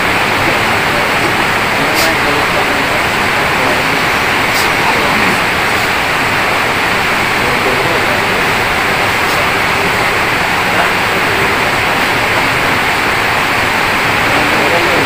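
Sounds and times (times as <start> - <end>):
steady loud hiss: 0.0 - 15.0.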